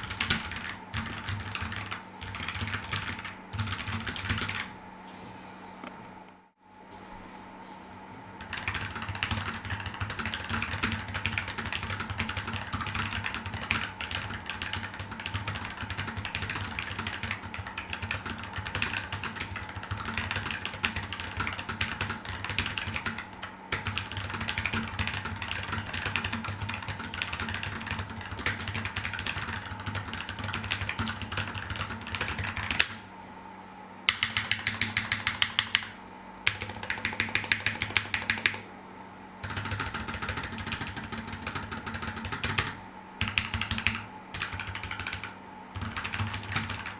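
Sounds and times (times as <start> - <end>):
fast typing on mechanical keyboard: 0.0 - 4.7, 8.4 - 33.0, 34.1 - 38.6, 39.4 - 46.9.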